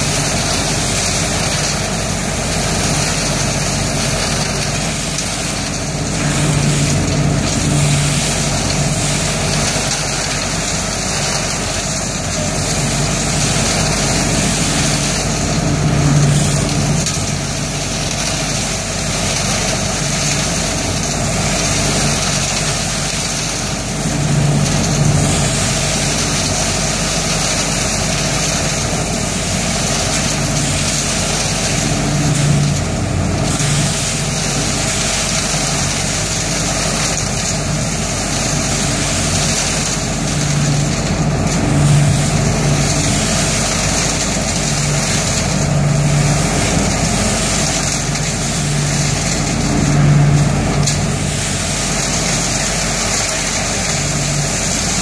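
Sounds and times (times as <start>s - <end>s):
leaf vacuum engine humming: 0.0s - 55.0s.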